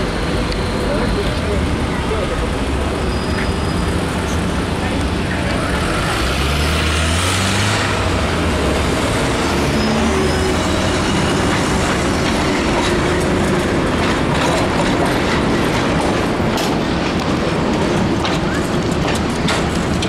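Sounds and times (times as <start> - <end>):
passing car traffic: 0.0 - 20.0
tram rumbling: 0.0 - 20.0
tram wheels clicking on rails: 0.0 - 20.0.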